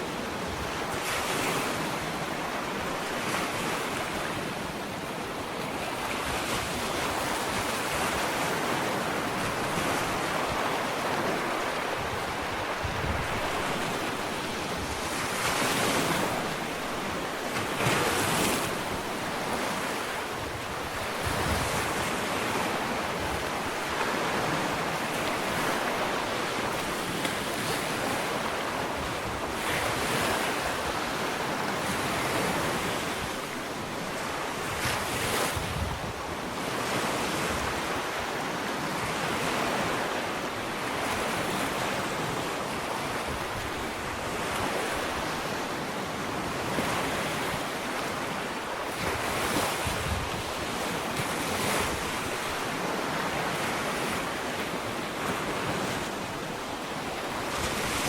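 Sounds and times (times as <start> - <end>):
ocean waves on sandy shore: 0.0 - 58.0
wind on microphone: 5.6 - 40.1, 40.7 - 58.0.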